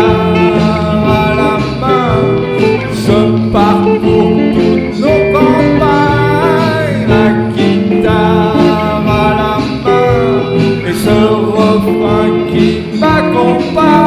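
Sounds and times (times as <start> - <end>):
country song with acoustic guitar: 0.0 - 14.0.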